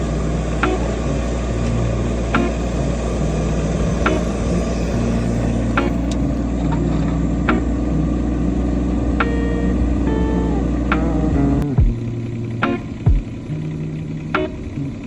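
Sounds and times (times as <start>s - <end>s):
heavy machinery engine running: 0.0s - 15.0s
pitched sliding notes: 0.0s - 15.0s.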